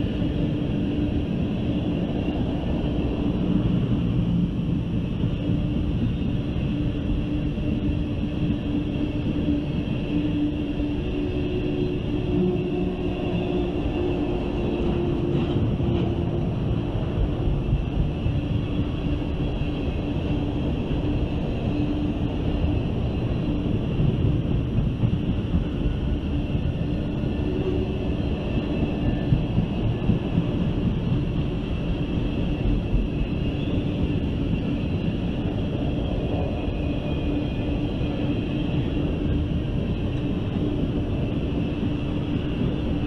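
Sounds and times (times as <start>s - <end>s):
train wheels rumbling and clattering: 0.0s - 43.0s.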